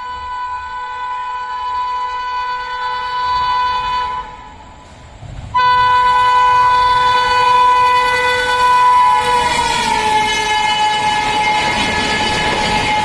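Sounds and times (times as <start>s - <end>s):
locomotive air horn blasts: 0.0s - 4.8s, 5.5s - 13.0s
train rushing past: 0.0s - 13.0s.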